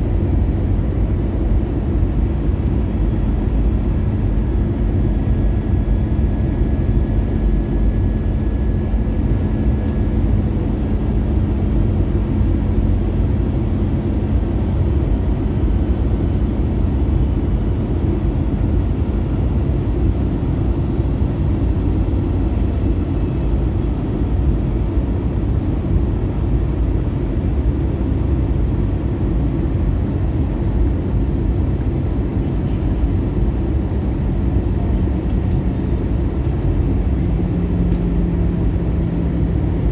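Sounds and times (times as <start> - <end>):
airflow rumble in aircraft cabin: 0.0 - 39.9
jet engine drone: 0.0 - 39.9.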